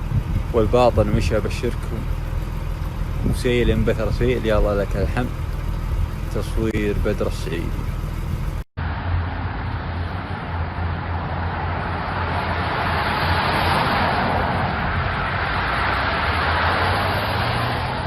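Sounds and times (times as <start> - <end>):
low vehicle engine hum: 0.0 - 18.0.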